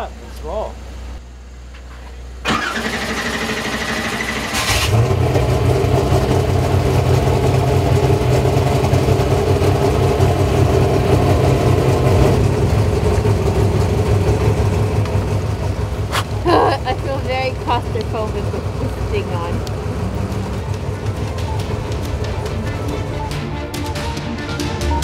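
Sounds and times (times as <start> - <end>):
truck engine idling: 0.0 - 25.0
engine starter whine: 1.8 - 25.0.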